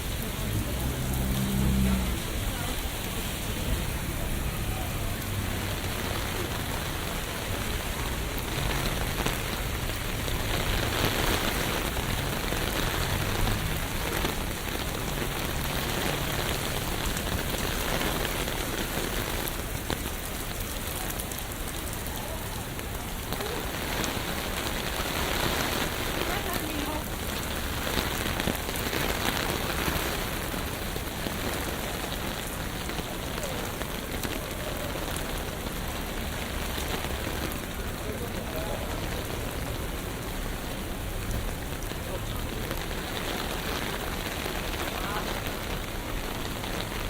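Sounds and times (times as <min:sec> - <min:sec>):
rain on hard surfaces: 0:00.0 - 0:47.0.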